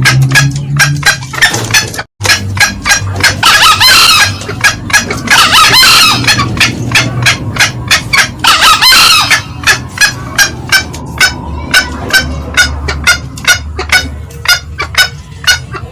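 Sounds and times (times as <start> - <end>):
junglefowl cackling: 0.0 - 15.9
junglefowl crowing call: 0.0 - 15.9.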